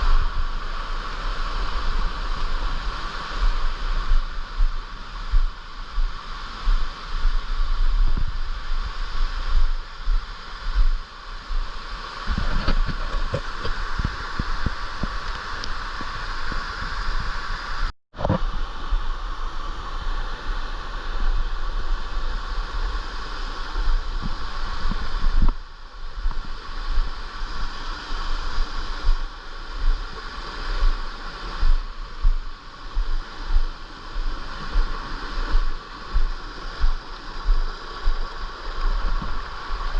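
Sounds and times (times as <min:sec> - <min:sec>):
stream water rushing: 0:00.0 - 0:39.9
wind buffeting microphone: 0:00.0 - 0:39.9.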